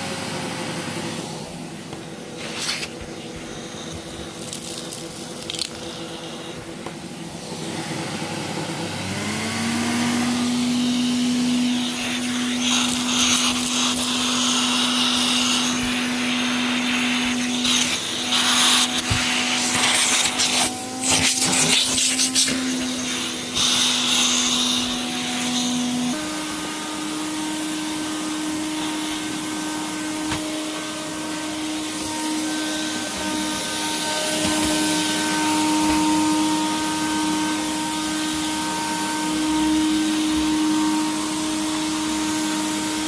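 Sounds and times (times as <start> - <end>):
vacuum cleaner motor running: 0.0 - 43.0.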